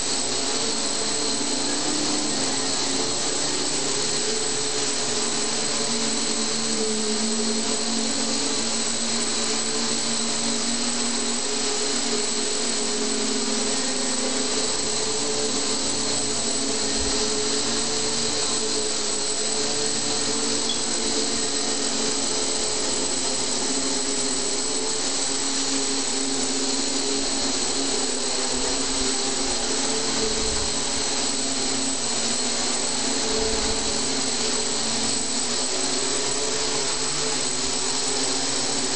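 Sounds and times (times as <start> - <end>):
multirotor drone buzzing: 0.0 - 38.9.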